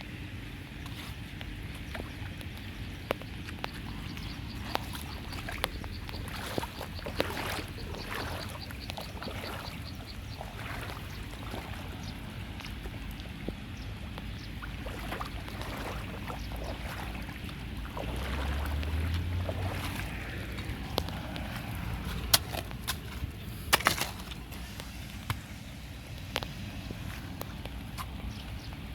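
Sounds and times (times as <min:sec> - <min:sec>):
water splashing around a drain: 0:00.8 - 0:28.9.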